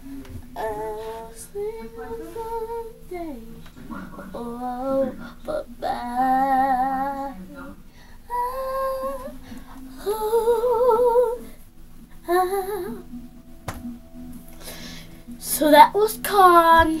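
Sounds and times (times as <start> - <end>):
girl singing wordless notes: 0.0 - 17.0.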